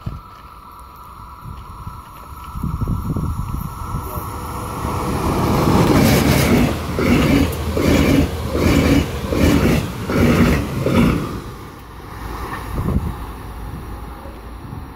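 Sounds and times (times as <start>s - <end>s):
train wheels clattering over rails: 0.0s - 13.2s.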